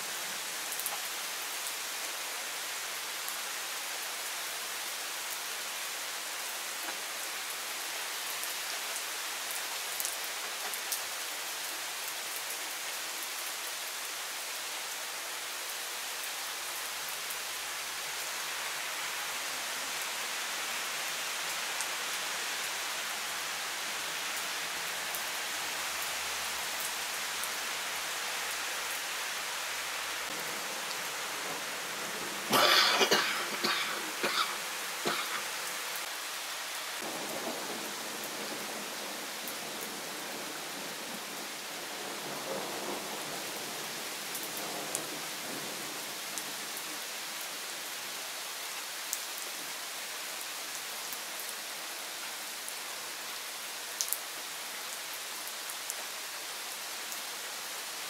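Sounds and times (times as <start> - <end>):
rain pattering on leaves and paving: 0.0 - 58.0.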